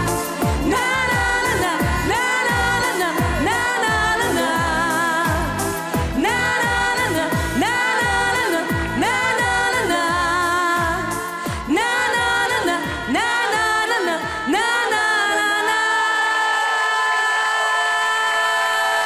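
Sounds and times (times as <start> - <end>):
live pop band with vocals: 0.0 - 19.0.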